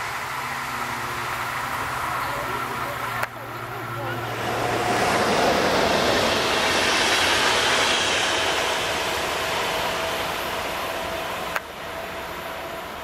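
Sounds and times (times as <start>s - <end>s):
passenger train passing at speed: 0.0s - 13.0s.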